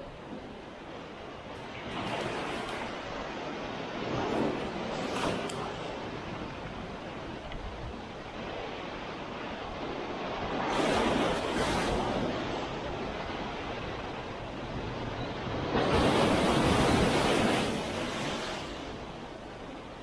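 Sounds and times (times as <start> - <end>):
surf: 0.0 - 20.0.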